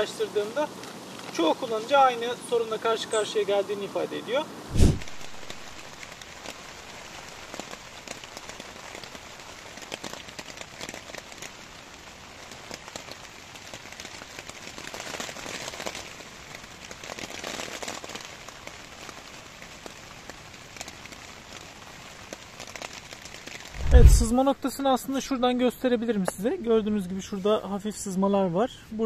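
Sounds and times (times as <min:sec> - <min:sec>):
rain on a tent: 0:00.0 - 0:29.0.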